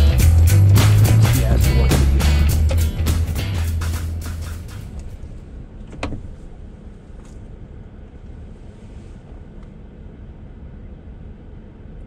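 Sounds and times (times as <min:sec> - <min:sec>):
vehicle driving low rumble: 0:00.0 - 0:12.0.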